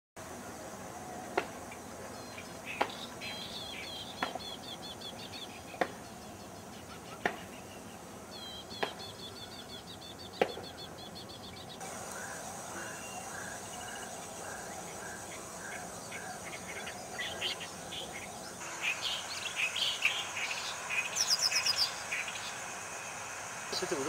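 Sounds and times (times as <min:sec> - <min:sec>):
background hiss: 0:00.2 - 0:24.0
birds chirping high notes: 0:01.8 - 0:24.0.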